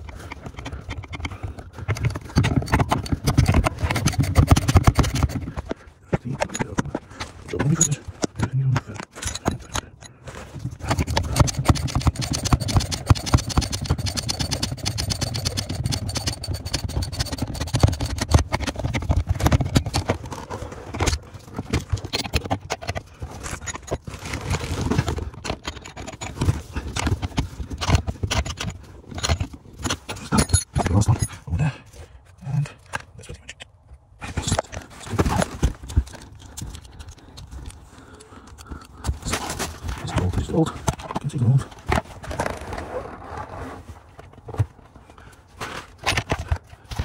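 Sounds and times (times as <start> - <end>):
clicking and knocking of parts: 0.0 - 31.4, 32.8 - 42.5, 45.9 - 47.0.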